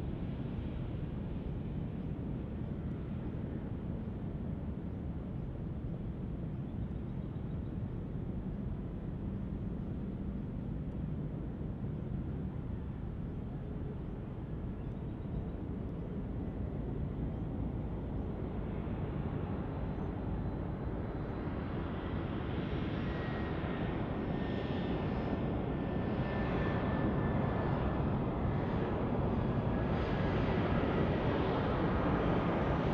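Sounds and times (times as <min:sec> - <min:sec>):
high jet engine whine: 0:00.0 - 0:32.9.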